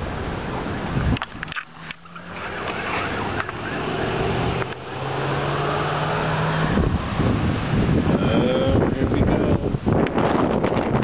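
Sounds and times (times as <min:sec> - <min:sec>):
low engine hum: 0:00.0 - 0:11.0
rushing wind: 0:00.0 - 0:11.0
wind buffeting microphone: 0:00.0 - 0:11.0.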